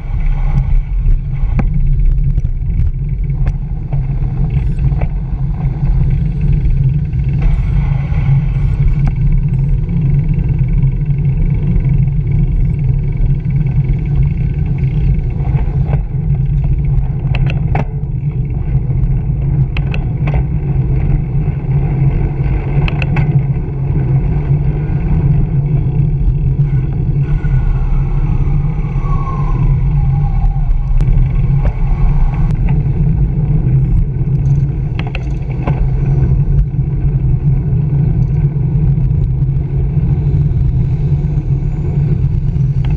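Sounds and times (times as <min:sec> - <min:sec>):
wind and road rumble: 0:00.0 - 0:42.9
bicycle clicks and rattles: 0:00.1 - 0:27.7, 0:29.8 - 0:42.9.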